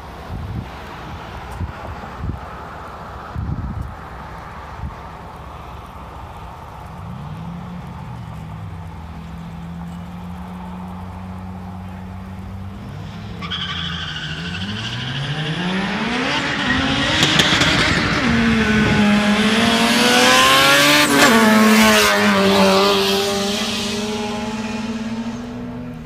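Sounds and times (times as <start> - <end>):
car engines accelerating hard: 0.0 - 26.0.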